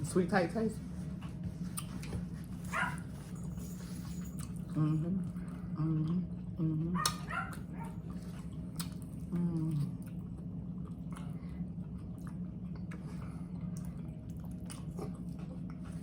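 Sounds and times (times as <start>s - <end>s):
steady low hum: 0.0s - 16.0s
voiced hum: 0.0s - 16.0s
people chewing: 1.0s - 3.2s, 3.8s - 16.0s.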